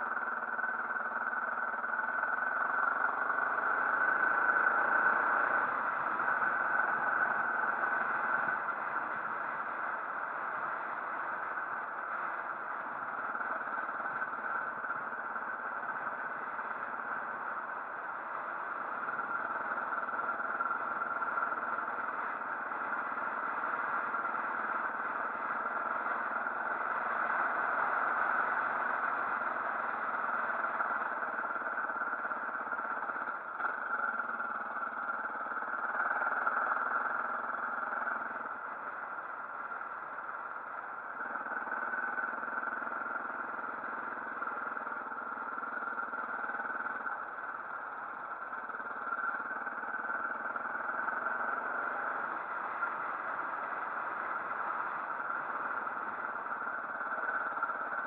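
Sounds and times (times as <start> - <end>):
motorcycle engine: 0.2 - 58.0.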